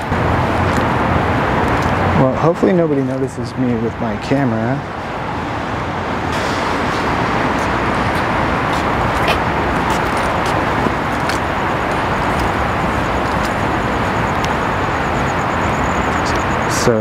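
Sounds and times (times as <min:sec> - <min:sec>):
freeway traffic rushing: 0:00.0 - 0:17.0.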